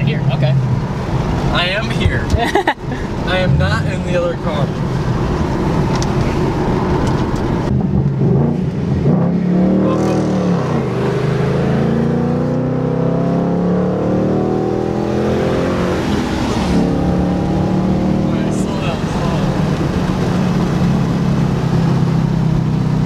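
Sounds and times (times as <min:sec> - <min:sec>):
car engine accelerating: 0:03.1 - 0:23.0.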